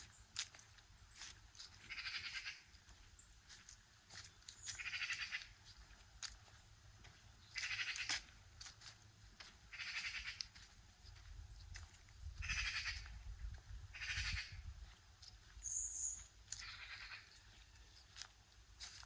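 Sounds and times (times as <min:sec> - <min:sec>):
footsteps crunching on gritty ground: 0:00.0 - 0:19.0.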